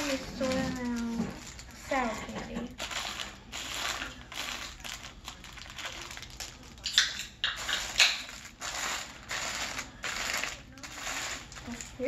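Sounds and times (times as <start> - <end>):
candy wrappers crinkling: 0.0 - 12.0.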